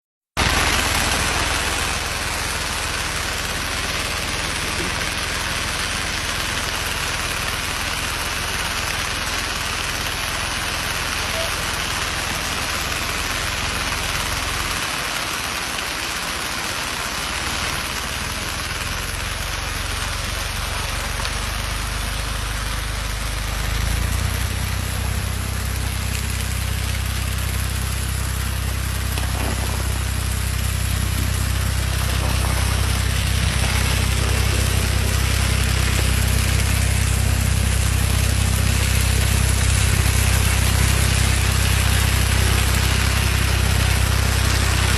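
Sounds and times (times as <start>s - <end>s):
string trimmer engine running: 0.4s - 16.3s, 18.9s - 44.9s
constant even hiss: 0.4s - 44.9s.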